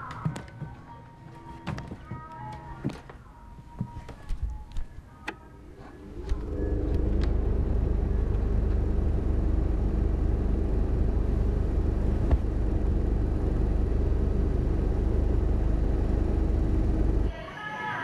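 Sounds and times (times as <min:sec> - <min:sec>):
electric fan motor humming: 0:01.7 - 0:17.3.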